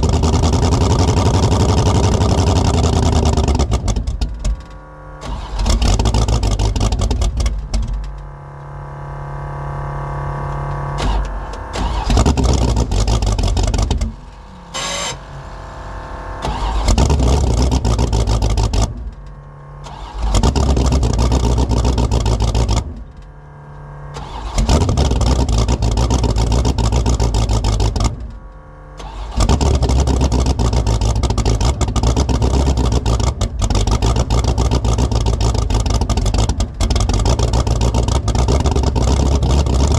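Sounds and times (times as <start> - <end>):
car engine surging: 0.0 - 39.9.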